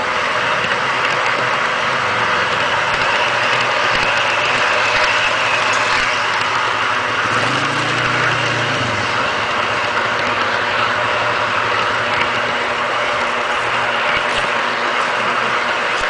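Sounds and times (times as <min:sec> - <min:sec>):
low motor hum: 0:00.0 - 0:16.0
model train wheels on rails: 0:00.0 - 0:16.0.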